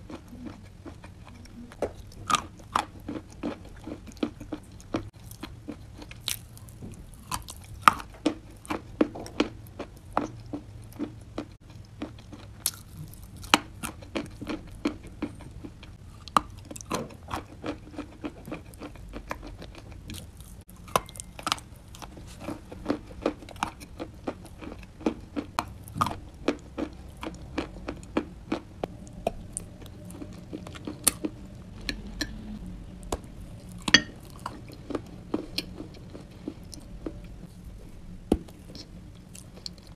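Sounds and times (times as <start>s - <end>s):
chewing crunches: 0.0s - 32.4s, 33.0s - 37.7s, 38.5s - 39.9s.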